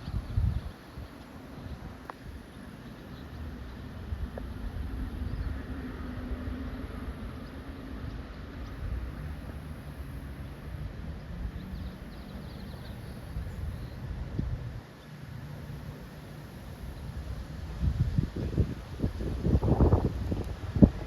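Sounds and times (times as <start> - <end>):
wind buffeting microphone: 0.0 - 14.9, 15.5 - 21.0
wind rushing through trees: 0.0 - 21.0.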